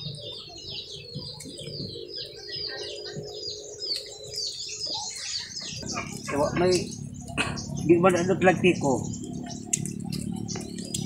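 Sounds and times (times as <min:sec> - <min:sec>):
many small birds chirping: 0:00.0 - 0:11.0.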